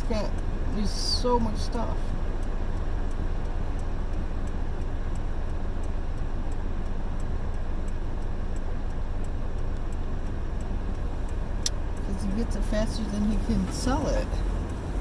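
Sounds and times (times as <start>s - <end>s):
engine and road rumble: 0.0s - 15.0s
faint regular tick: 0.1s - 15.0s.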